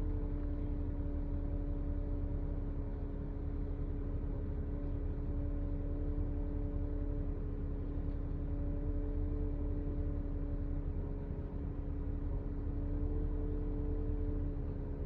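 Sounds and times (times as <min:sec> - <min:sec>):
engine rumble with whine: 0:00.0 - 0:15.0.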